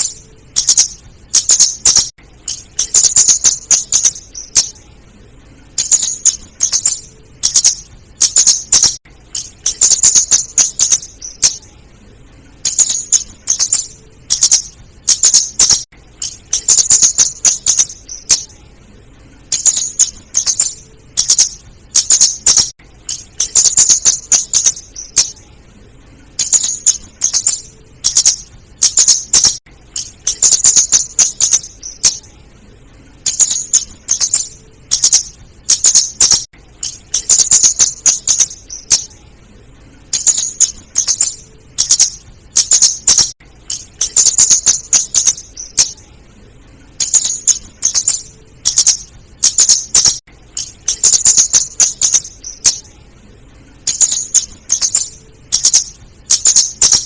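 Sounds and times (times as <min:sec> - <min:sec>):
bird high ticking calls: 0:00.0 - 0:04.8, 0:05.7 - 0:11.7, 0:12.6 - 0:18.6, 0:19.5 - 0:25.4, 0:26.4 - 0:32.3, 0:33.2 - 0:39.2, 0:40.1 - 0:46.0, 0:47.0 - 0:52.9, 0:53.9 - 0:57.0.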